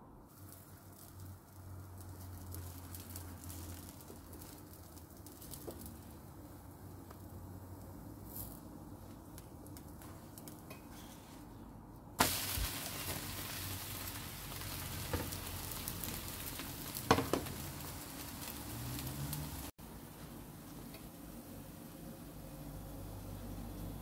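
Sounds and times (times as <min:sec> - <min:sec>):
batter sizzling in frying pan: 0:00.3 - 0:11.1, 0:12.2 - 0:24.0.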